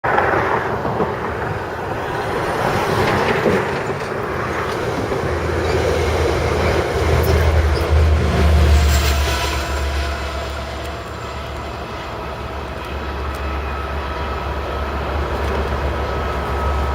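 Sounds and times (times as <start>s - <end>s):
train diesel rumble: 0.0s - 16.9s.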